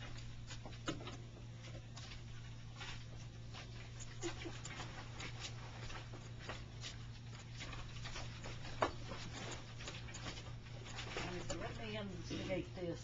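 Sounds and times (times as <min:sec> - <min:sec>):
claws scrabbling on wood: 0:00.0 - 0:12.4
steady low hum: 0:00.0 - 0:13.0.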